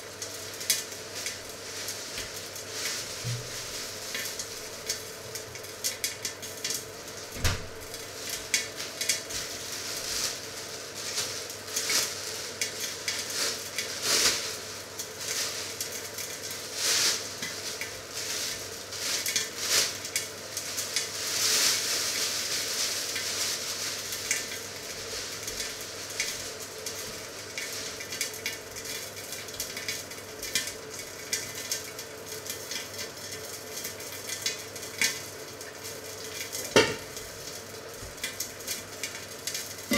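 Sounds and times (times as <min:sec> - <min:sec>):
meat sizzling in grill pan: 0:00.0 - 0:39.9.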